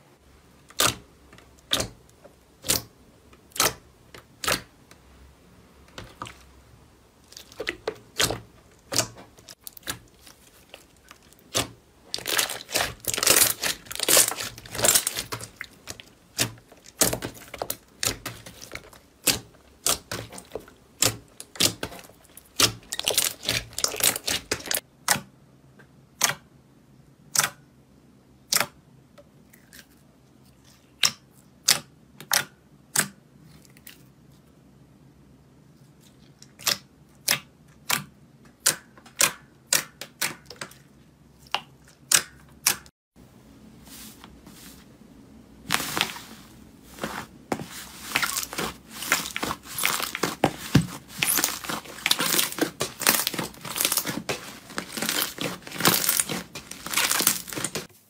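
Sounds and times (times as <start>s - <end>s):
wet squishing of slime: 0.6s - 5.0s, 7.2s - 25.2s, 29.4s - 34.5s, 35.8s - 42.9s, 45.6s - 58.0s.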